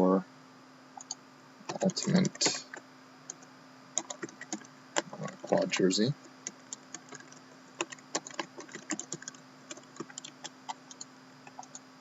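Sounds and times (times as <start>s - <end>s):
computer keyboard typing: 1.0s - 3.4s, 4.0s - 11.8s.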